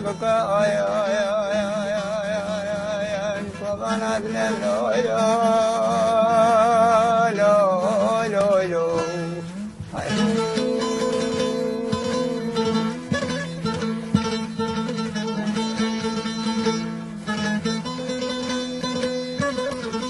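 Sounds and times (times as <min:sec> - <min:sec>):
man singing with vibrato: 0:00.0 - 0:16.8.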